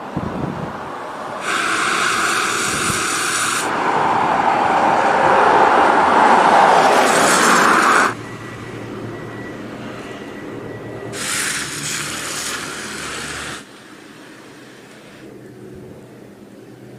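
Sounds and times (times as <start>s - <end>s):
street background: 0.0s - 16.9s
vehicles hissing on wet street: 0.0s - 16.9s.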